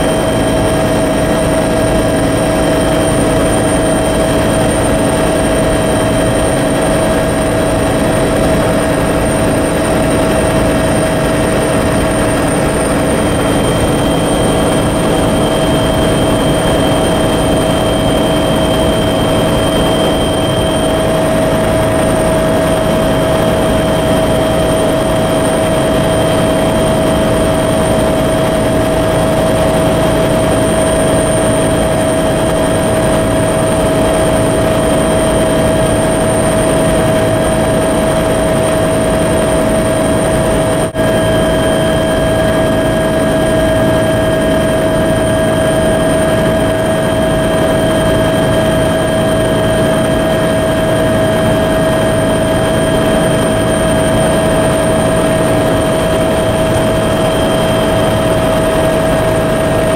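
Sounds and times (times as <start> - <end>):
helicopter cabin drone: 0.0 - 59.9
turbine whine: 0.0 - 59.9.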